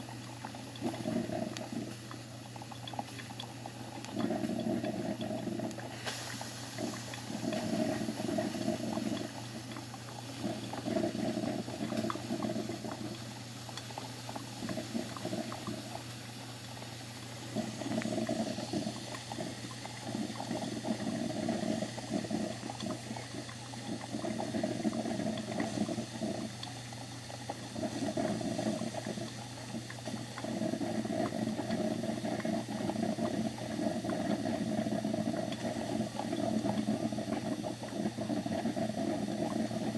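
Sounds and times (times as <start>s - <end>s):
coffee machine gurgling: 0.0s - 39.9s.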